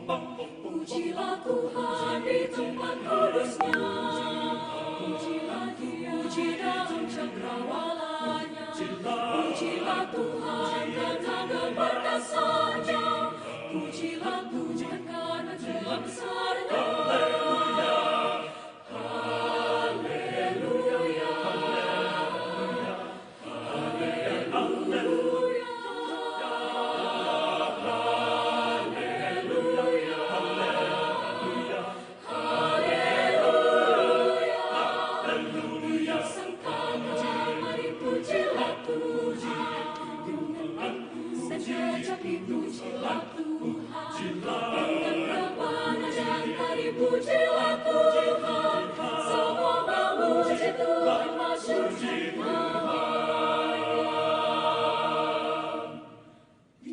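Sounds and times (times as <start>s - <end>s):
choir singing in harmony: 0.0s - 56.9s.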